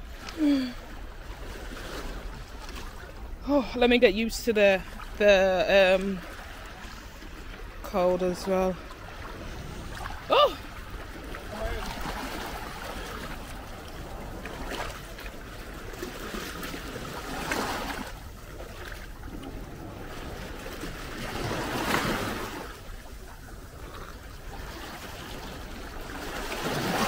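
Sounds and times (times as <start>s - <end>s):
small waves lapping over rocks: 0.0s - 27.0s.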